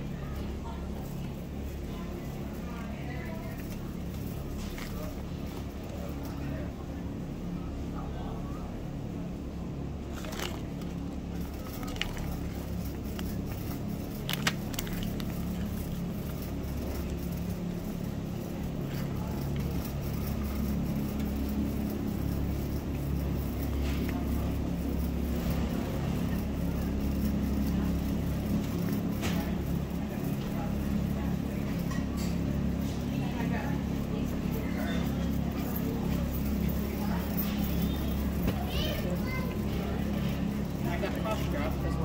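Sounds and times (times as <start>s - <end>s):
shopping cart wheels rumbling: 0.0s - 42.0s.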